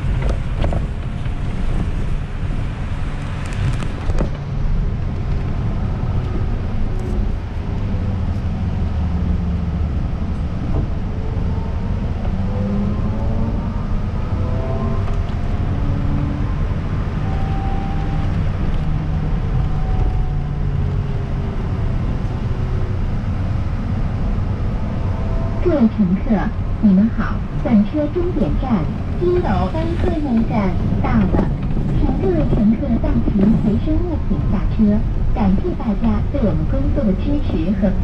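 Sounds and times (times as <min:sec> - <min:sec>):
bus drivetrain drone: 0:00.0 - 0:38.0
road noise: 0:00.0 - 0:38.0.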